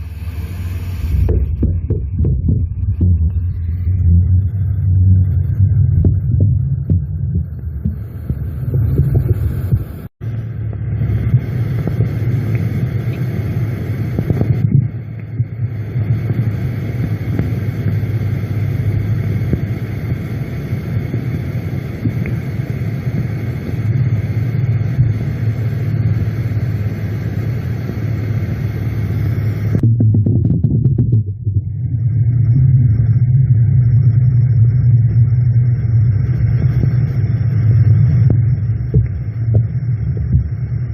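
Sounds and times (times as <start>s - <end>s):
low rumble with throb and hum: 0.0s - 40.9s.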